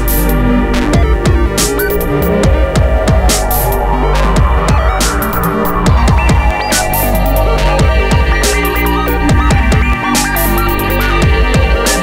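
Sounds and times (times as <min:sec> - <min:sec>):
electronic dance music: 0:01.0 - 0:12.0.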